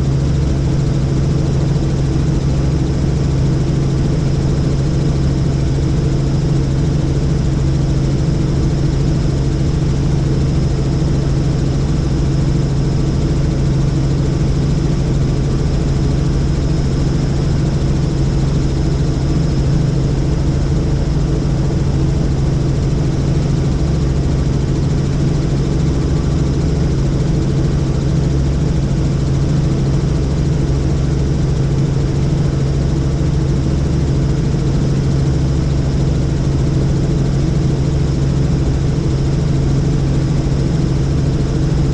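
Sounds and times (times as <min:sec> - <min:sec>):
helicopter drone: 0:00.0 - 0:41.9.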